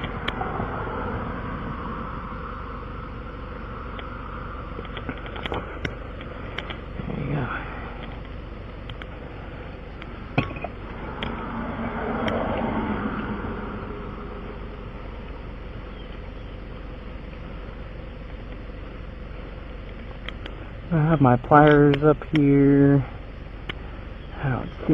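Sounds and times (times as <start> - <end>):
vehicle passing on road: 0.0 - 22.3
steady background hum: 0.0 - 24.9.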